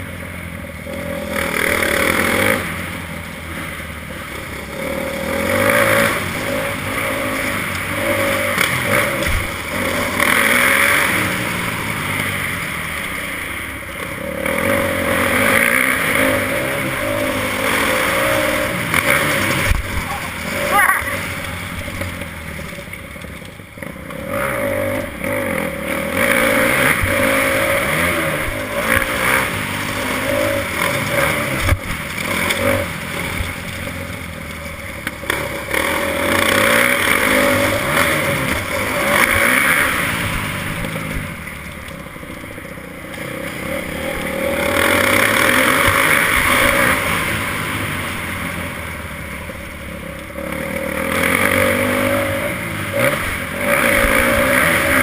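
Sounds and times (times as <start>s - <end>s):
motocross bike engine: 0.0s - 55.0s.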